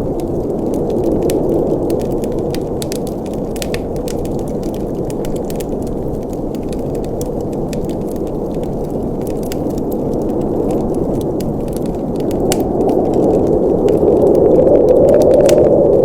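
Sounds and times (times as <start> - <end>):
fire flames rushing: 0.0 - 16.0
logs crackling and popping: 0.0 - 16.0.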